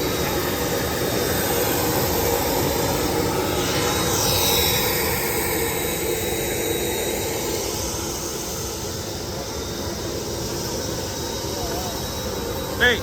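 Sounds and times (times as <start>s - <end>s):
jet engine rush and whine: 0.0s - 13.0s.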